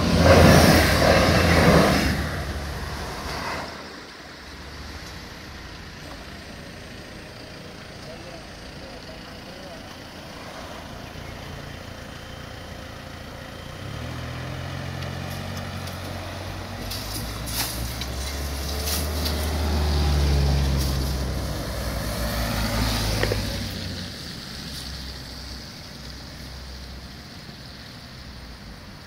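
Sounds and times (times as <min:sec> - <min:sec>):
cars passing on wet road: 0:00.0 - 0:29.0.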